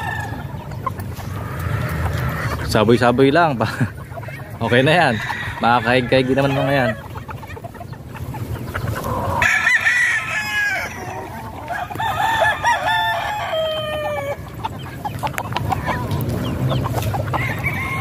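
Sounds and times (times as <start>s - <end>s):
chickens clucking: 0.0s - 18.0s
roosters crowing: 0.0s - 18.0s.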